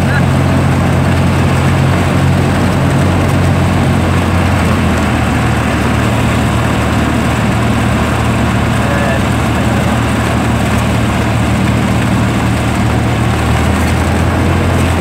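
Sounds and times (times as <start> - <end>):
propeller aircraft engine hum: 0.0 - 15.0.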